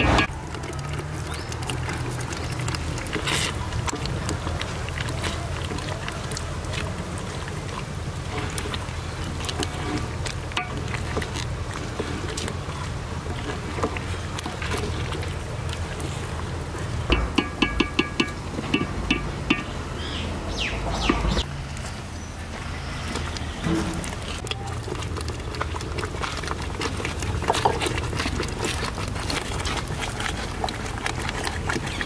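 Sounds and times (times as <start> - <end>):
wooden spoon stirring: 0.0 - 20.0, 22.4 - 32.0
gravy simmering in a pot: 0.0 - 32.0.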